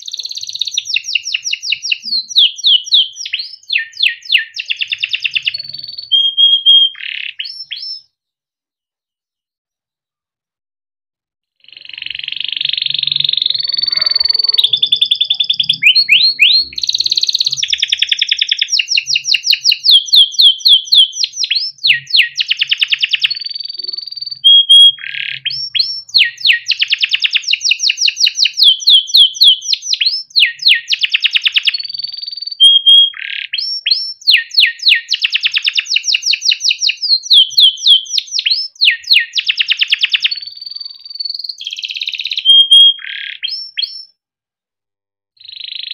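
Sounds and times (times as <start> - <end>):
canary singing trills: 0.0 - 8.1, 11.6 - 44.1, 45.4 - 45.9.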